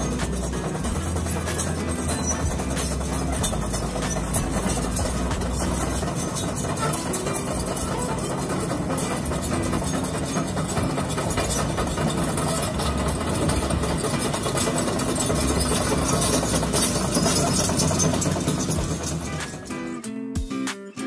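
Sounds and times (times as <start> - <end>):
diesel engine running: 0.0 - 20.1.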